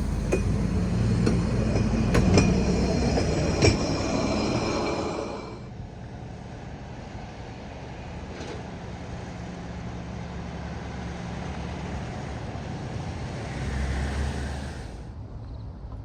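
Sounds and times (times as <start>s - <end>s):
rail noise: 0.0s - 15.4s
diesel locomotive engine droning: 0.0s - 15.9s.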